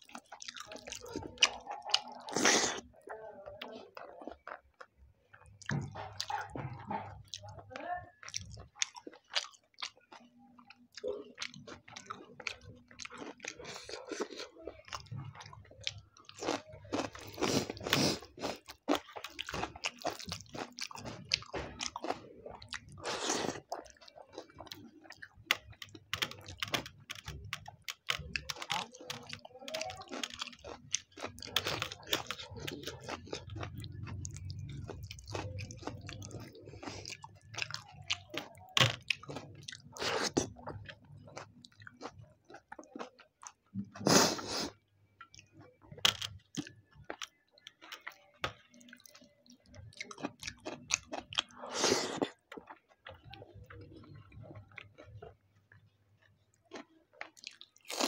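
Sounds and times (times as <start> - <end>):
wet chewing and mouth clicks: 0.0 - 58.0.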